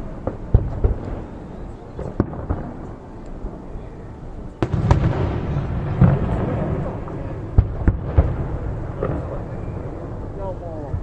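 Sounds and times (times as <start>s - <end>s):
fireworks bursting: 0.0s - 11.0s
low rolling rumble: 0.0s - 11.0s.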